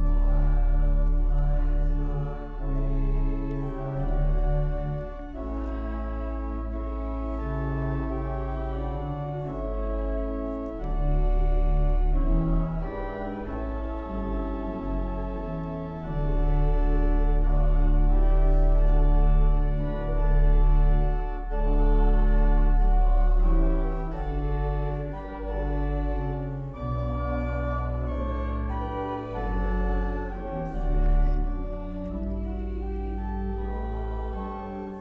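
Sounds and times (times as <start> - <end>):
pipe organ playing chords: 0.0 - 35.0.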